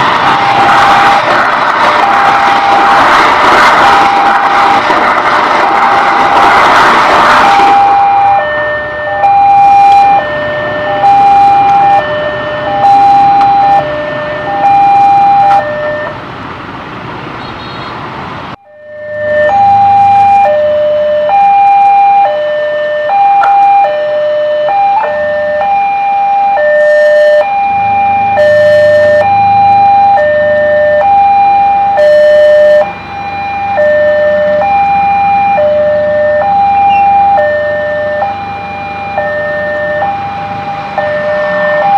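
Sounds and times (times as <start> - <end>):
level-crossing two-tone alarm: 0.0 - 5.0, 5.6 - 16.2, 18.6 - 41.9
vehicle engines running: 0.0 - 41.9.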